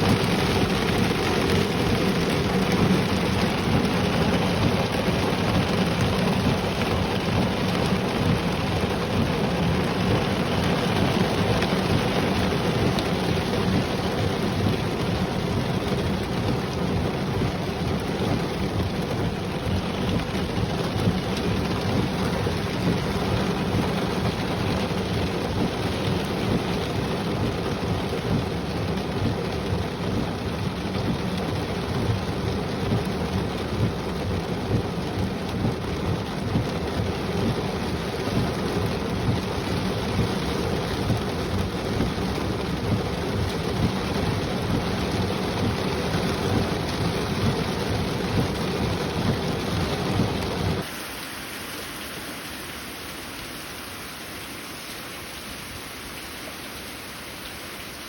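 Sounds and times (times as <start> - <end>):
low rumble of thunder: 0.0 - 50.8
heavy rain pouring: 0.0 - 58.0.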